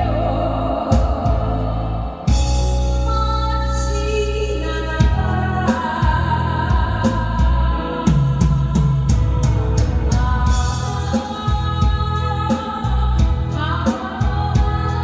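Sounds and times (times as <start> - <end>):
bass line: 0.0 - 15.0
drums: 0.0 - 15.0
keyboard chords: 0.0 - 15.0.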